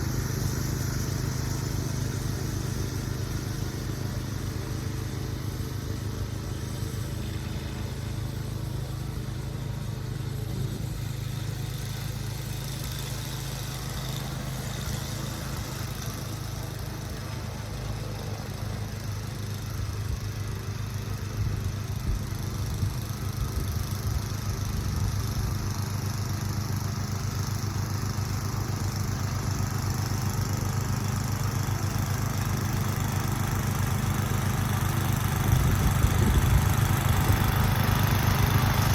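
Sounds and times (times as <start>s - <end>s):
engine humming: 0.0s - 38.9s.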